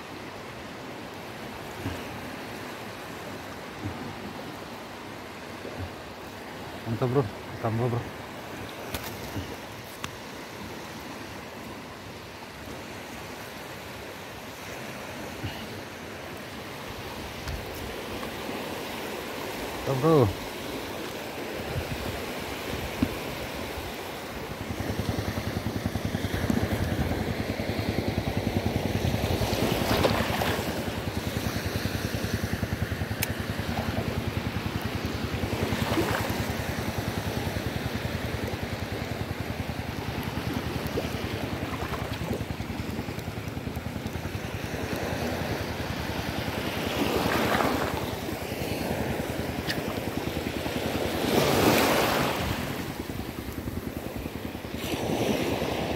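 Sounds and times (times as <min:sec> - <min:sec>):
small waves washing on shore: 0:00.0 - 0:55.9.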